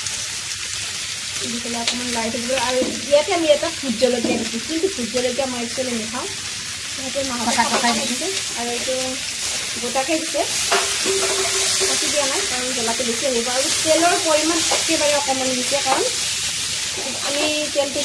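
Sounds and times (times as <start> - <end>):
curry sizzling in a pan: 0.0 - 18.0.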